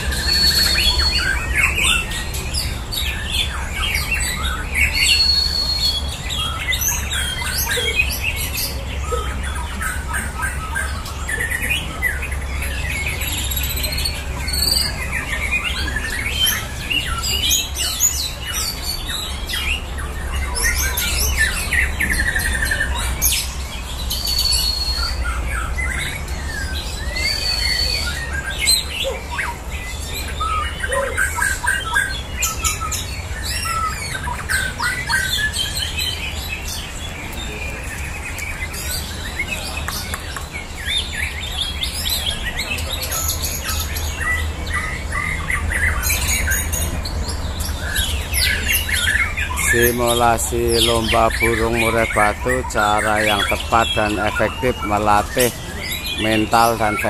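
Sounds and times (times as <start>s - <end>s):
birds singing: 0.0s - 57.0s.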